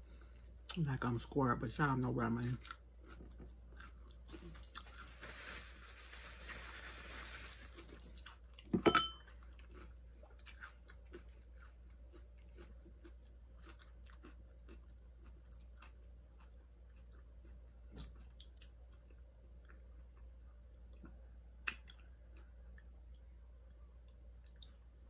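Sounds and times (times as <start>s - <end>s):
chewing crisp tortilla: 2.3s - 25.0s.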